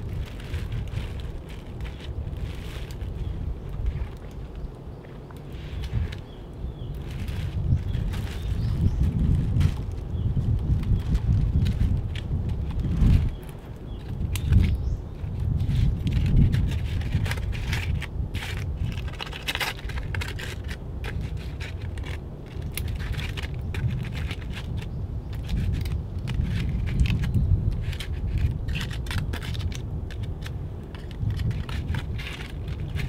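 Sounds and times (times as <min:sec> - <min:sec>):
aluminium foil crinkling: 0:00.0 - 0:04.6, 0:06.9 - 0:33.0
low wind rumble: 0:00.0 - 0:33.0.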